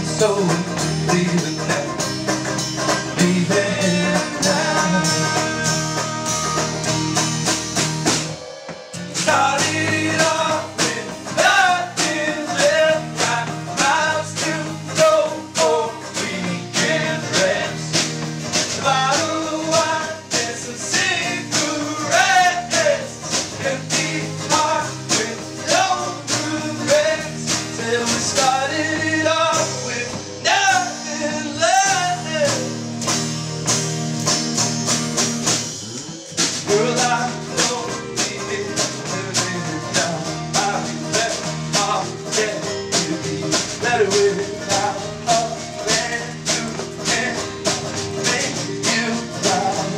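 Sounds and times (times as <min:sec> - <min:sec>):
person singing: 0:00.0 - 0:02.1, 0:03.1 - 0:06.9, 0:09.1 - 0:32.8, 0:36.6 - 0:49.9
strummed guitar: 0:00.0 - 0:49.9.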